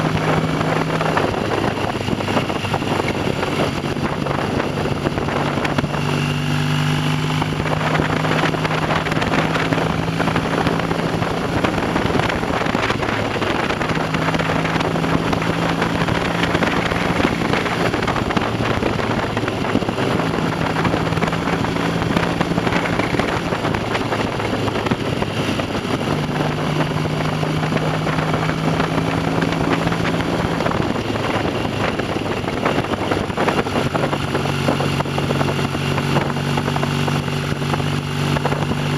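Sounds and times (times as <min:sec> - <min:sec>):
motorcycle engine exhaust: 0:00.0 - 0:38.9
wind and road noise: 0:00.0 - 0:38.9.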